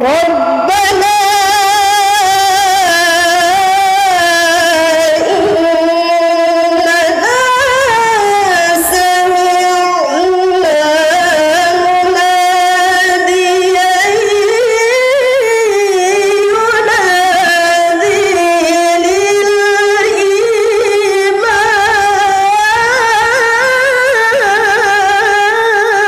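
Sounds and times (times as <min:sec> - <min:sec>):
woman reciting melodically: 0:00.0 - 0:26.0.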